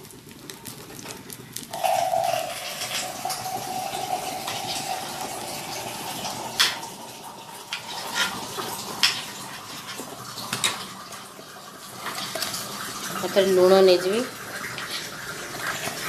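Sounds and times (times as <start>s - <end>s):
water bubbling in a pan: 0.0s - 16.0s.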